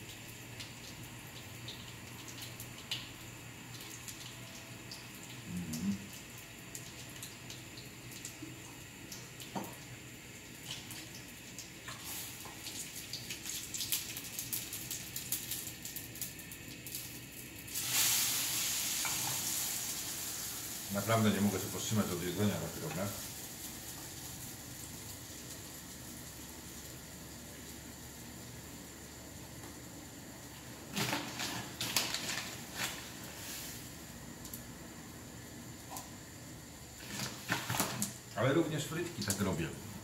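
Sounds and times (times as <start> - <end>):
oil crackles and pops: 0.0 - 39.6
pancakes sizzling in oil: 0.0 - 40.0.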